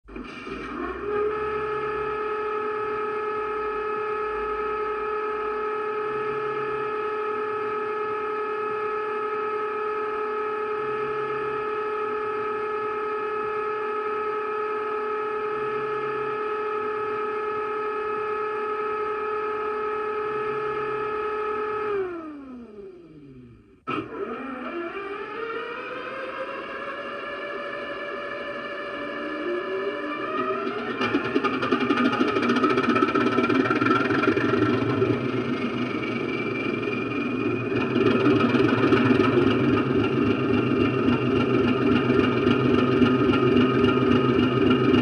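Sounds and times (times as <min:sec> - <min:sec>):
model locomotive diesel engine whine: 0:00.1 - 0:45.0.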